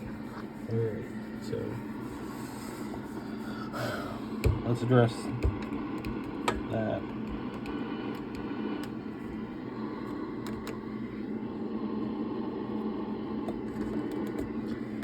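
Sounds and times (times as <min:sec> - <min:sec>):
cooling fan humming: 0:00.0 - 0:15.0.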